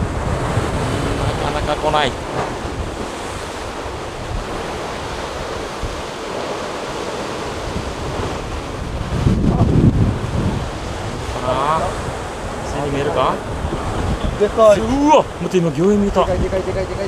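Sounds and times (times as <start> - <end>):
surf washing against rocks: 0.0 - 17.0
wind on microphone: 0.0 - 17.0.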